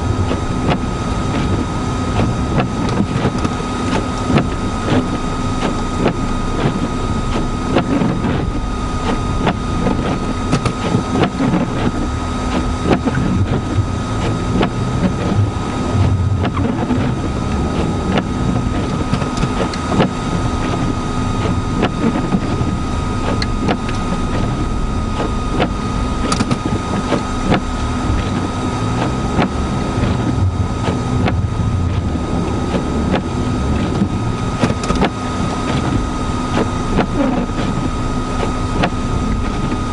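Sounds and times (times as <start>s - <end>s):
high-pitched whine: 0.0s - 39.9s
vehicle engine running: 0.0s - 39.9s
wind: 0.0s - 39.9s.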